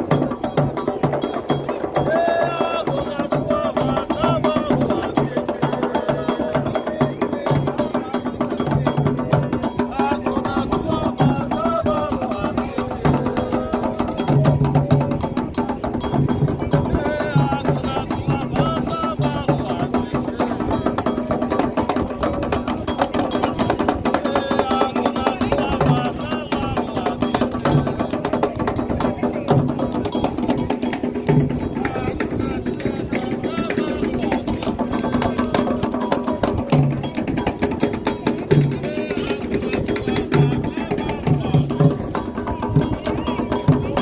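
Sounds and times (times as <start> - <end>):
hand drums fast rhythm: 0.0 - 44.0
voices singing: 0.0 - 44.0.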